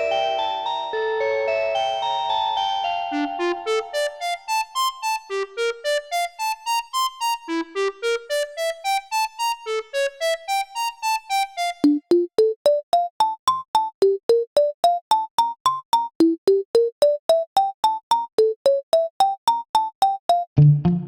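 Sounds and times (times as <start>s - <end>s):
electronic keyboard melody: 0.0s - 20.6s
clicky instrument melody: 3.1s - 20.7s.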